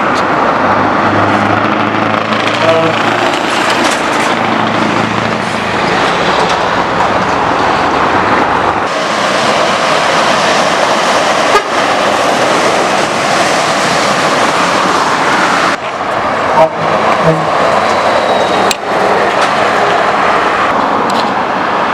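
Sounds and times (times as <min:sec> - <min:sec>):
truck engines with loud exhaust: 0:00.0 - 0:21.9.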